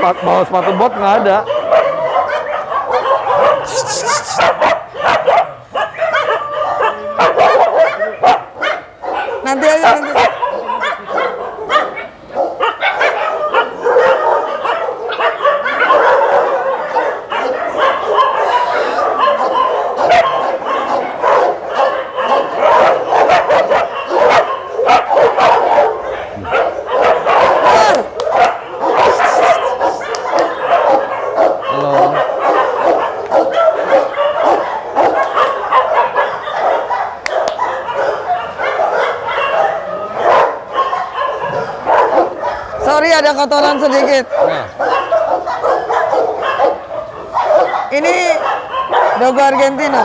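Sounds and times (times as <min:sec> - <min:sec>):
dogs barking: 0:00.0 - 0:50.0.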